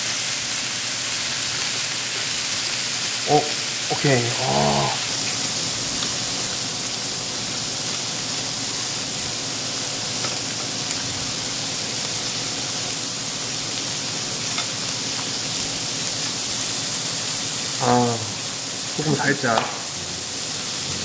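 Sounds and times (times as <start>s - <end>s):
beef sizzling on a grill pan: 0.0s - 21.0s.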